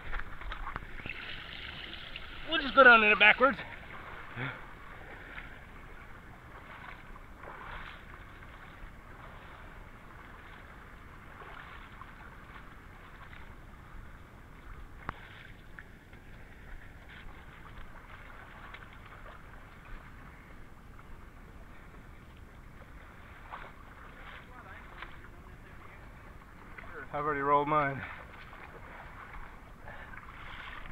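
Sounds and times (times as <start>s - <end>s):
water splashing around wading legs: 0.0s - 30.9s.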